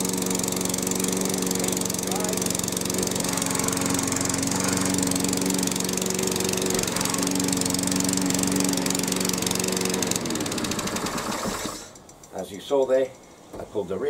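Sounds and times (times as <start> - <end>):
lawn mower engine running: 0.0 - 12.3.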